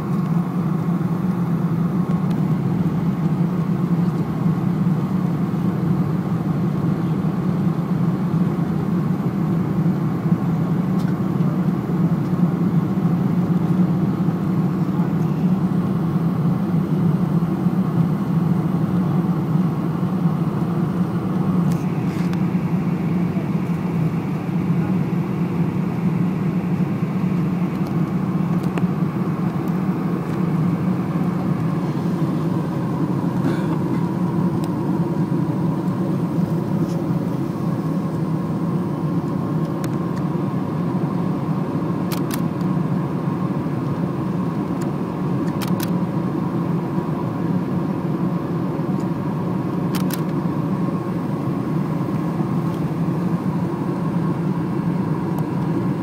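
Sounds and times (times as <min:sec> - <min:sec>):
faint steady whine: 0:00.0 - 0:56.0
jet engine and airflow rush: 0:00.0 - 0:56.0.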